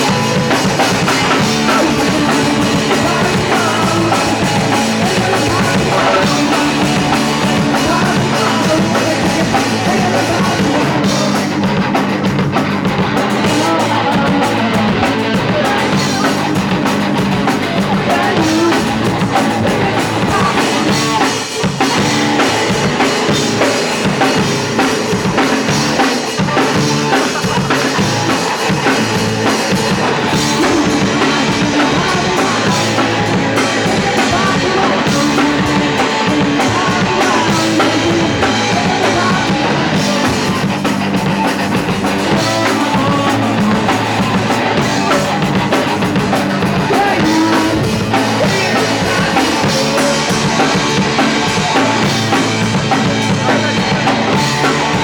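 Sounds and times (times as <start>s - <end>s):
drum kit: 0.0s - 55.0s
punk rock band playing live: 0.0s - 55.0s.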